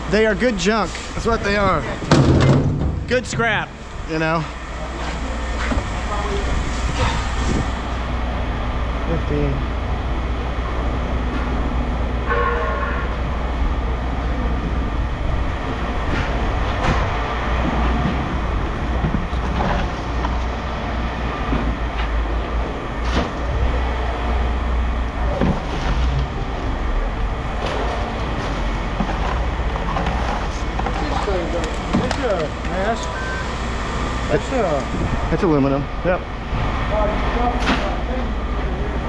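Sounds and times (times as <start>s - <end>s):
machinery engine rumble: 0.0s - 39.0s.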